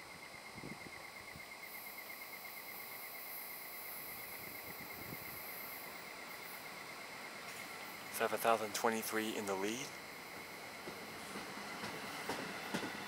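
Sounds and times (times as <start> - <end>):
train low rolling rumble: 0.0 - 13.0
train pulsing high whine: 0.0 - 13.0.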